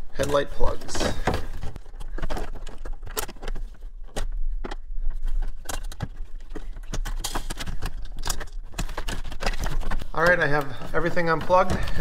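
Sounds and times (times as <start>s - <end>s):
plastic connectors clicking and rattling: 0.2s - 12.0s.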